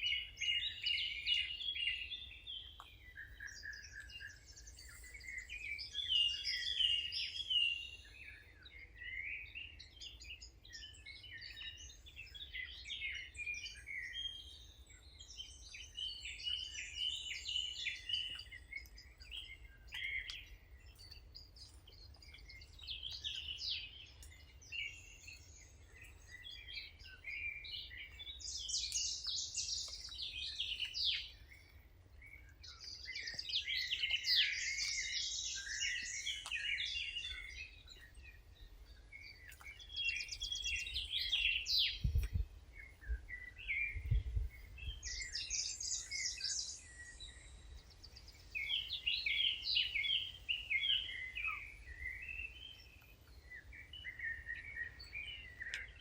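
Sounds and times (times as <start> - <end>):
birds singing and chirping: 0.0 - 56.0.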